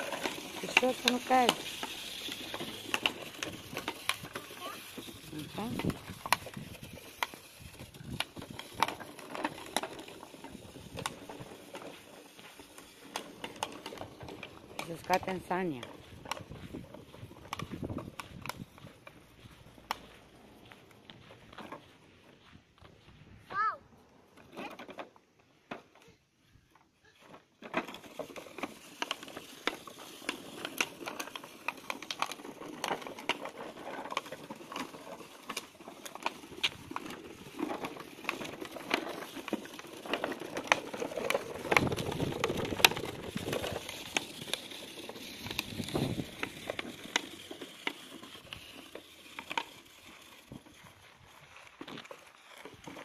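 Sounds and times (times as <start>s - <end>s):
toy wheels crunching snow: 0.0s - 53.0s.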